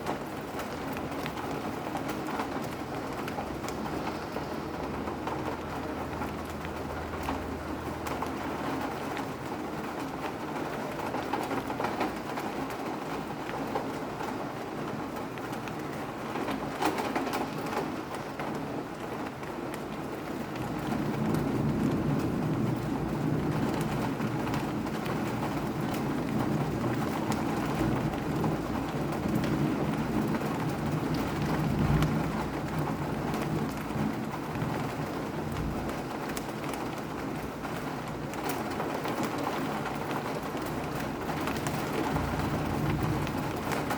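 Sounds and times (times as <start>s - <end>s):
raindrops pattering: 0.0s - 43.9s
steady rain falling: 0.0s - 43.9s.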